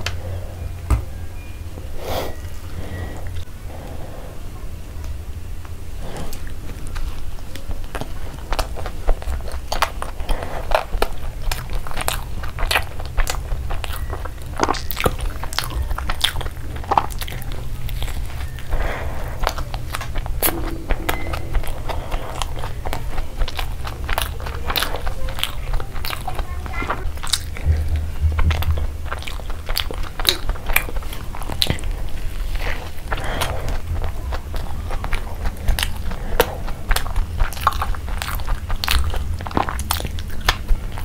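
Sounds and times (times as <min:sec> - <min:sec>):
crunchy chewing of a burger: 0:05.9 - 0:41.0.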